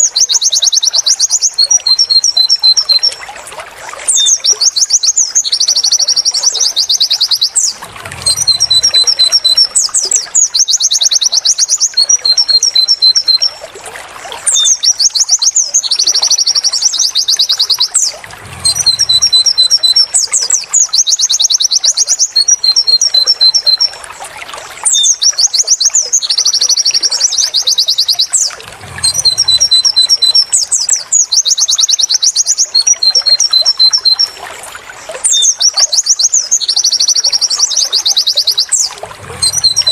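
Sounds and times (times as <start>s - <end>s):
bird song trills: 0.0s - 3.3s, 4.1s - 13.6s, 14.4s - 24.0s, 24.8s - 34.4s, 35.0s - 39.9s.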